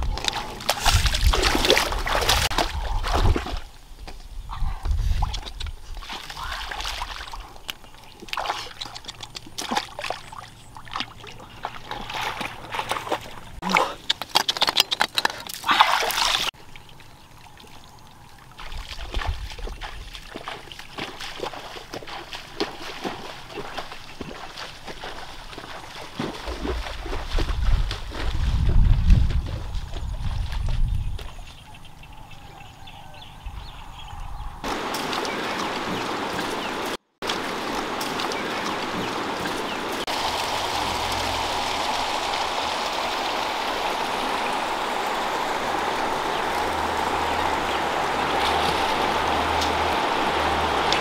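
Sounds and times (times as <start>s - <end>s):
water splashing from wading: 0.0s - 3.7s, 5.3s - 14.0s, 14.8s - 28.6s, 34.6s - 51.0s.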